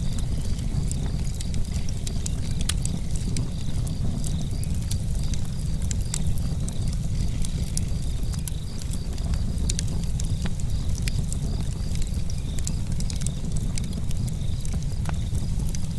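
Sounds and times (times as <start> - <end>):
sharp crackles: 0.0 - 15.9
wind buffeting microphone: 0.0 - 15.9.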